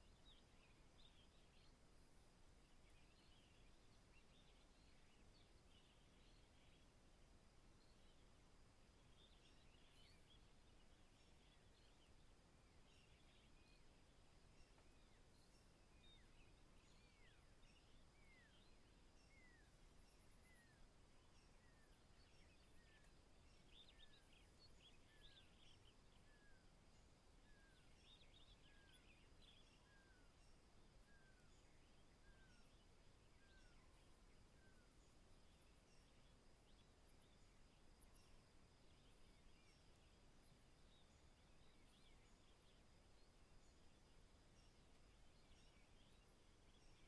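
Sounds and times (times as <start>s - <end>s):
birds twittering: 7.8s - 26.7s, 27.4s - 47.0s.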